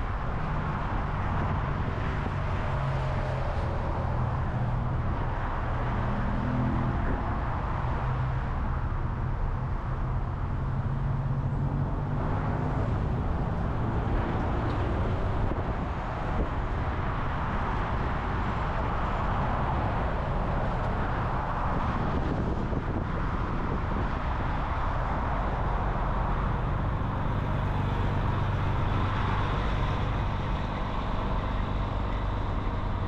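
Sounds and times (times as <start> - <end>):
car engine drone: 0.0 - 33.0
tyre and road noise: 0.0 - 33.0.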